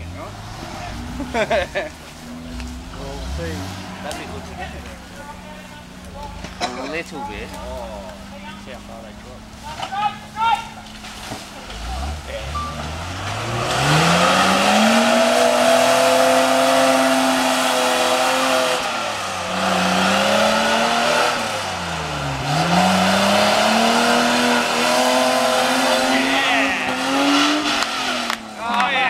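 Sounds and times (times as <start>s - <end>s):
engine revving hard: 0.0s - 9.1s, 11.7s - 28.6s.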